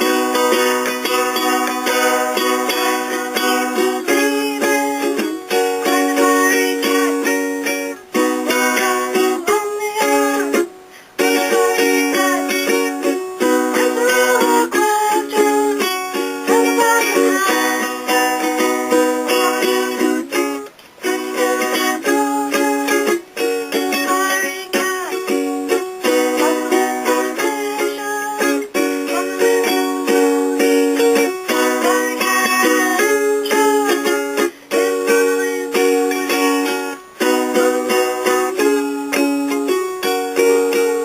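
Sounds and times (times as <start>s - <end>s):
ukulele music: 0.0s - 41.0s.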